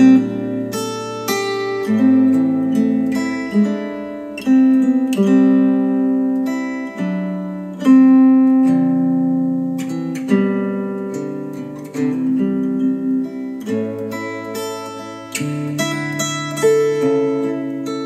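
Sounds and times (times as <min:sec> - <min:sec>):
plucked acoustic guitar chords: 0:00.0 - 0:18.0.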